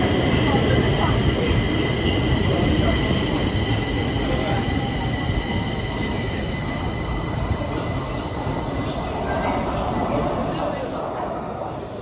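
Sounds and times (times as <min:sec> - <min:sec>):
metro train rumbling on rails: 0:00.0 - 0:12.0.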